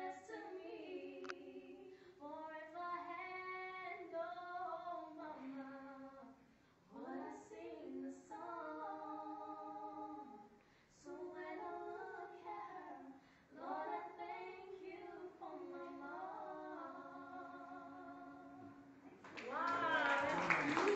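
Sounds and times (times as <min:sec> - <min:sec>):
girls singing unaccompanied: 0:00.0 - 0:19.8.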